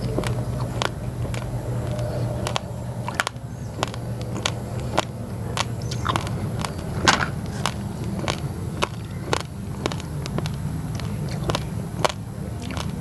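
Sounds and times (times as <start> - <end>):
chewing crunchy rice grains: 0.0 - 13.0
steady low hum: 0.0 - 13.0.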